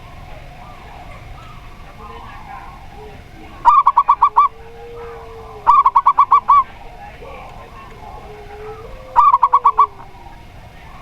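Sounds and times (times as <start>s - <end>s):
dove cooing in staccato runs: 0.0s - 11.0s
low drawn-out dove coo: 0.0s - 11.0s.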